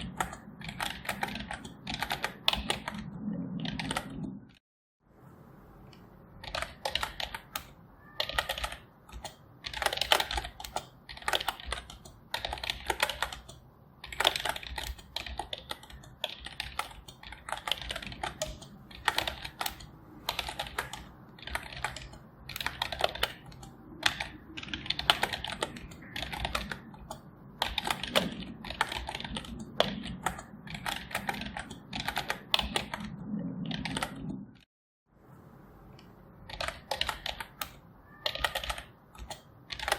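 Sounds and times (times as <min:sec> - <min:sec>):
keyboard typing: 0:00.0 - 0:04.6, 0:05.9 - 0:34.7, 0:36.0 - 0:39.9.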